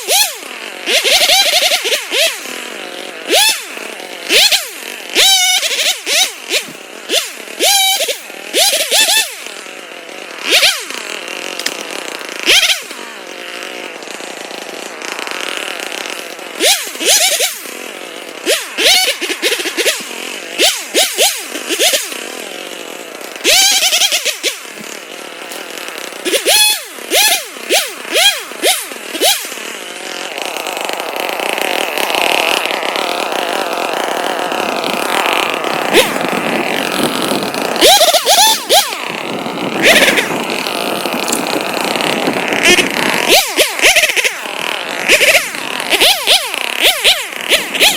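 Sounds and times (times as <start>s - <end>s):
chainsaw revving in bursts: 0.0s - 47.9s.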